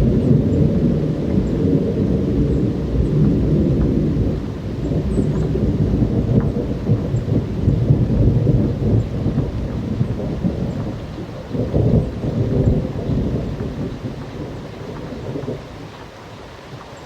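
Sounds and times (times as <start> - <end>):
thunder rumbling: 0.0 - 16.1
steady rain: 0.0 - 17.0.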